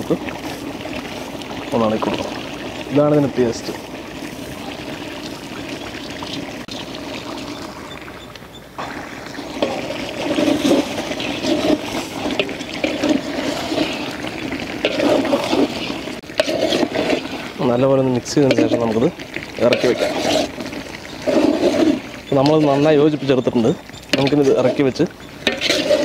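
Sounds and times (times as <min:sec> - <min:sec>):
gravy stirred in a pot: 0:00.0 - 0:08.0, 0:08.9 - 0:26.0.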